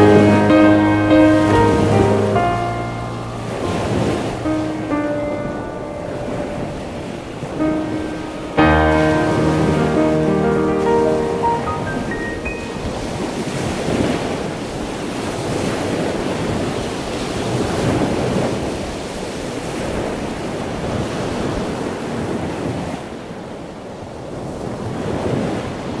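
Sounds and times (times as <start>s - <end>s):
waves breaking: 0.0s - 26.0s
wind: 0.0s - 26.0s.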